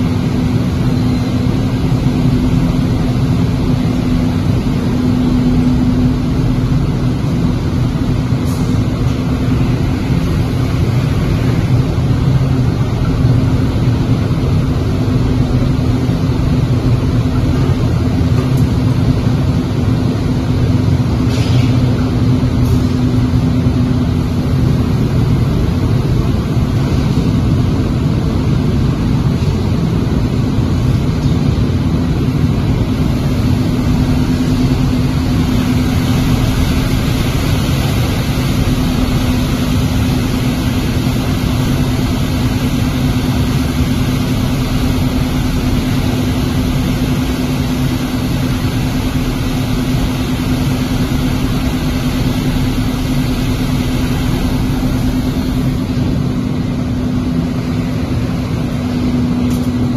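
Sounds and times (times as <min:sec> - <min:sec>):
constant low hum: 0:00.0 - 0:59.9
furnace machine noise: 0:00.0 - 0:59.9.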